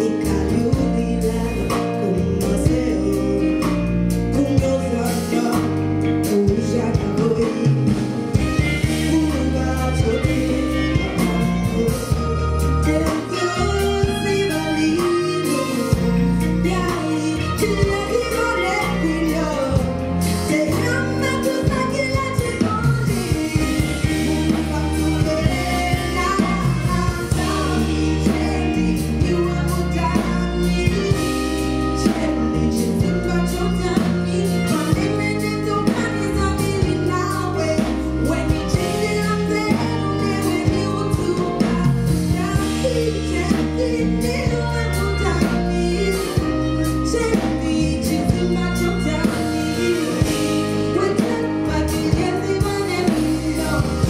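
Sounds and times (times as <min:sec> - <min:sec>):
live band playing: 0:00.0 - 0:54.0
woman singing: 0:00.0 - 0:54.0.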